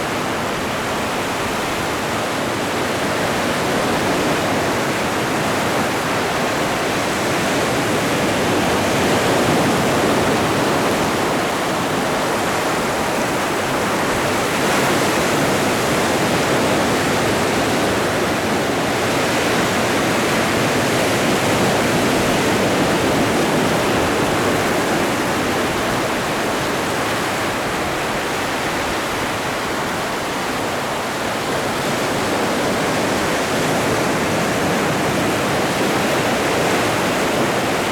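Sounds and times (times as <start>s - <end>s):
ocean waves surf: 0.0s - 37.9s.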